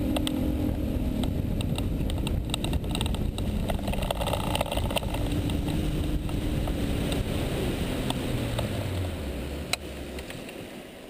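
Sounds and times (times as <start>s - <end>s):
outboard motor droning: 0.0s - 11.0s
wind and water rushing: 0.0s - 11.0s.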